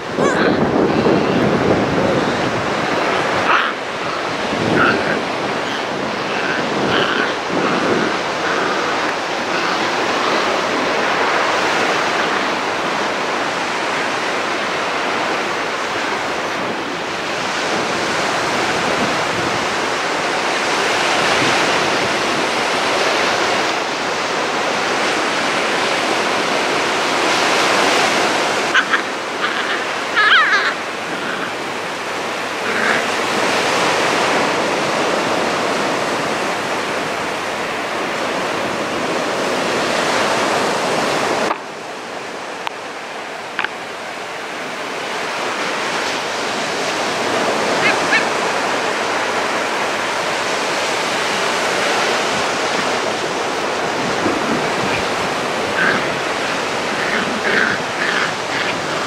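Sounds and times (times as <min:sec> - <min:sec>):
sea surf washing on beach: 0:00.0 - 0:59.0.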